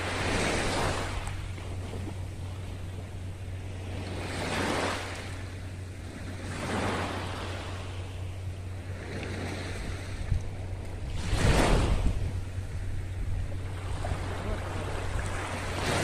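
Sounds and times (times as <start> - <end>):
small waves breaking on shore: 0.0 - 16.0
steady low hum: 0.0 - 16.0.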